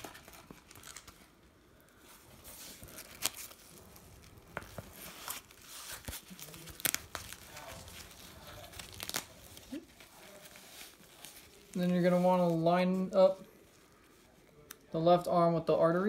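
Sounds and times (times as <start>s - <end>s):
cuff rustling and crinkling: 0.0s - 15.0s.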